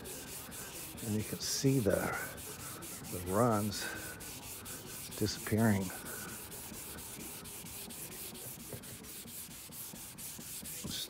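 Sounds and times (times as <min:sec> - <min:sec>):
sandpaper rasping on paint: 0:00.0 - 0:11.0.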